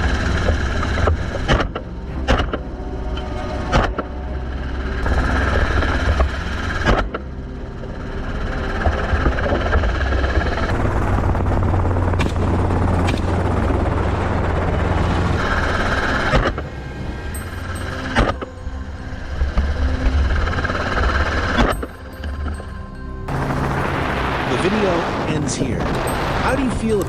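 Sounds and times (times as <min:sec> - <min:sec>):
helicopter rotor and engine rumble: 0:00.0 - 0:27.0.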